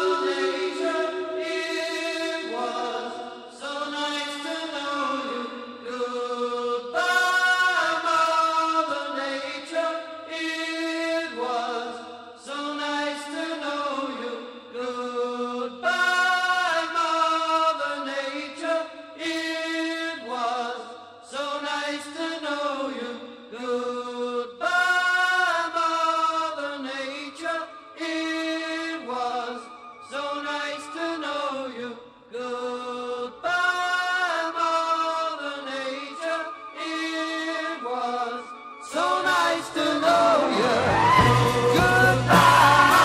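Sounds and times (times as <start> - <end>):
wordless vocal chanting: 0.0 - 43.0.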